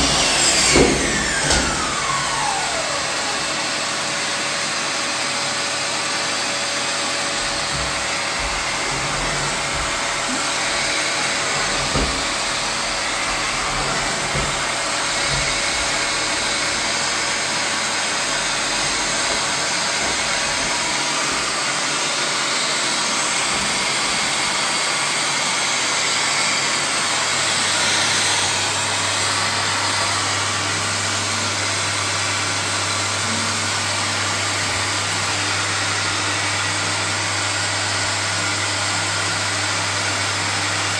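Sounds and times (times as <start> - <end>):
electric motor running: 0.0 - 4.7, 6.3 - 36.4.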